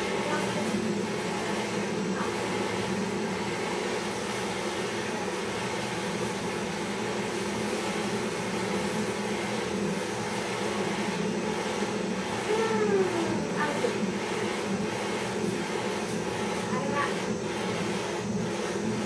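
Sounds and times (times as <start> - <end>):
gas torch flame burning: 0.0 - 19.0.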